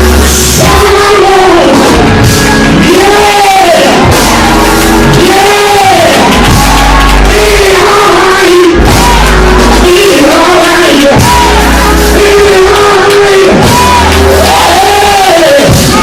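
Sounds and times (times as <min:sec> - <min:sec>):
person chanting: 0:00.0 - 0:02.1, 0:02.7 - 0:16.0
congregation shouting: 0:00.0 - 0:16.0
loud church music: 0:00.0 - 0:16.0.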